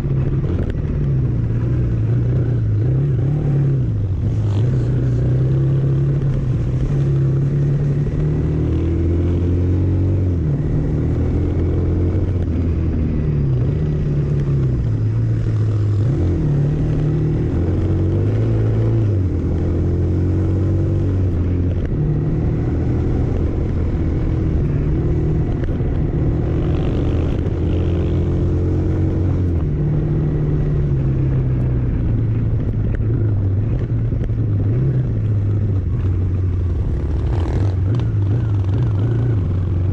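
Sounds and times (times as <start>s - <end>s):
vehicle engine driving: 0.0s - 39.9s.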